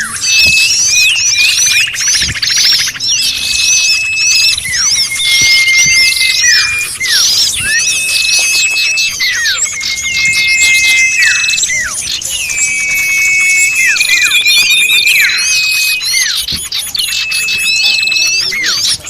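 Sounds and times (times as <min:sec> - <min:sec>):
chorus of small birds calling: 0:00.0 - 0:19.0
long whistled bird notes: 0:00.0 - 0:19.0.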